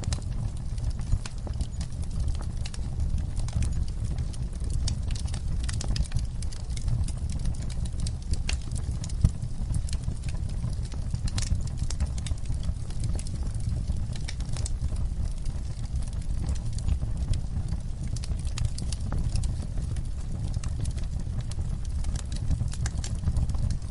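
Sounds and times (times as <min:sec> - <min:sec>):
crackles and pops of burning wood: 0:00.0 - 0:23.9
low rumble of flames: 0:00.0 - 0:23.9.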